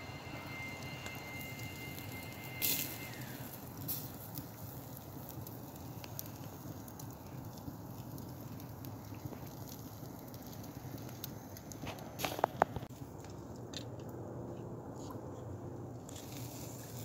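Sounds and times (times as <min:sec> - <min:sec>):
wood fire crackling and popping: 0:00.1 - 0:14.2.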